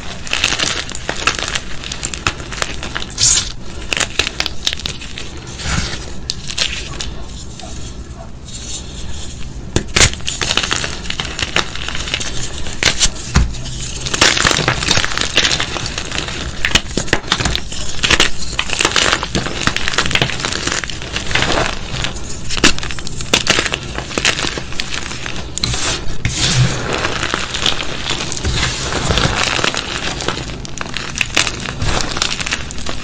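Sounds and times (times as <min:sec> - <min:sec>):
chalk blocks being crushed: 0:00.0 - 0:33.0.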